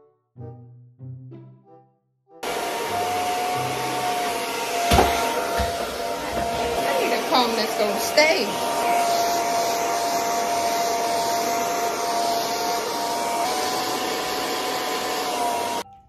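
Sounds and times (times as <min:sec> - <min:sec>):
hair dryer running: 0:02.4 - 0:15.8.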